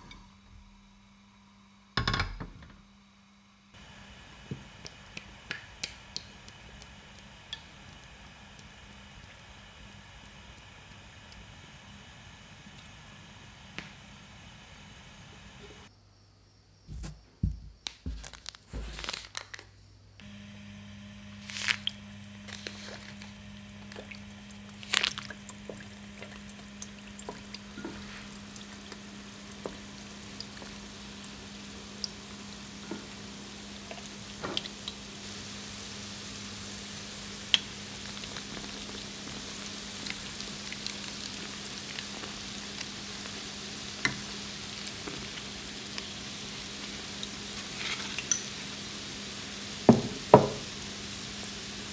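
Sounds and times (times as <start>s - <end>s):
dough sizzling in hot oil: 3.7s - 15.9s, 20.2s - 51.9s.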